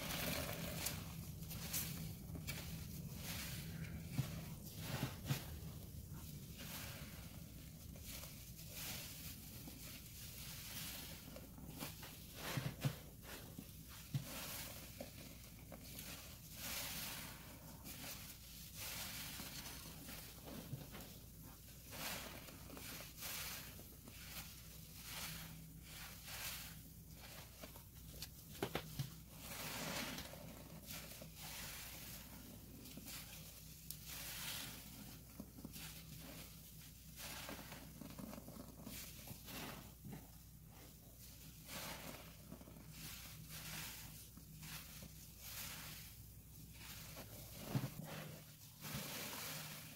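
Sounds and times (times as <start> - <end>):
wet sponge squelching: 0.0 - 49.9.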